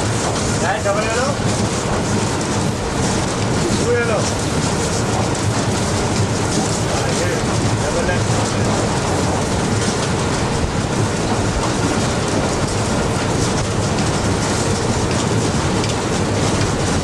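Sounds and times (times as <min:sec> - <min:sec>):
locomotive running noise: 0:00.0 - 0:17.0.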